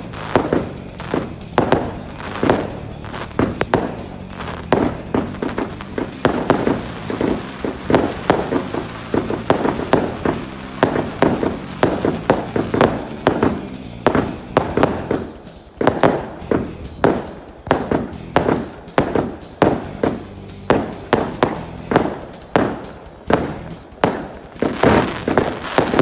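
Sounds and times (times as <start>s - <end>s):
fireworks banging: 0.0s - 26.0s
music: 0.0s - 26.0s.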